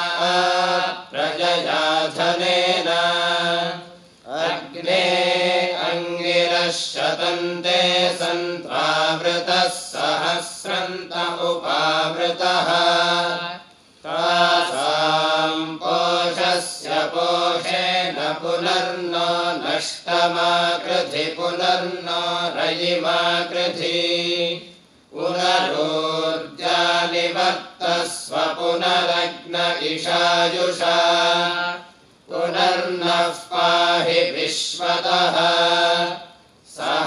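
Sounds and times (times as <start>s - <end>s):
men chanting together: 0.0s - 37.0s.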